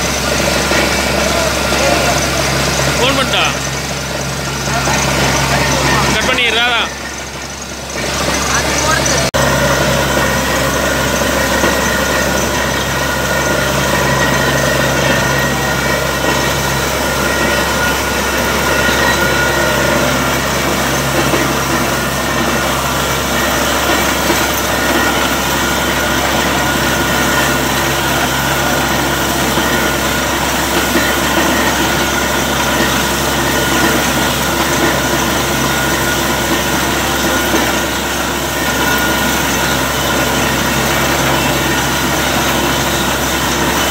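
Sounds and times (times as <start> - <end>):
drilling rig engine and compressor: 0.0 - 43.9.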